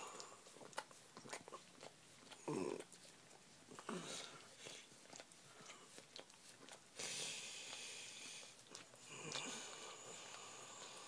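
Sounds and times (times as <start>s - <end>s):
dog licking: 0.0s - 11.0s
steady rustling hiss: 0.0s - 11.0s.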